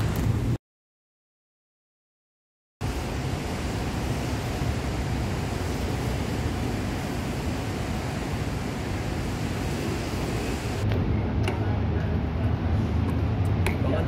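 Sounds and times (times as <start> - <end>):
city ambience rushing noise: 0.0 - 0.6, 2.8 - 14.0.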